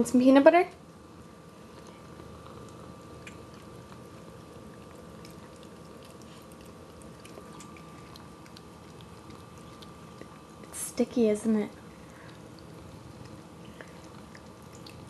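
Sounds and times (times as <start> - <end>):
faint hum: 0.0 - 15.0
cat licking a metal spoon: 1.8 - 10.9, 11.7 - 15.0.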